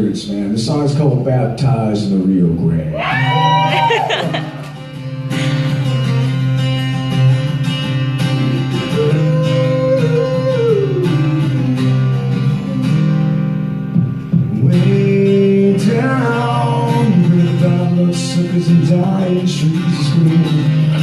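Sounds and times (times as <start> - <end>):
acoustic guitar strumming: 3.1 - 21.0.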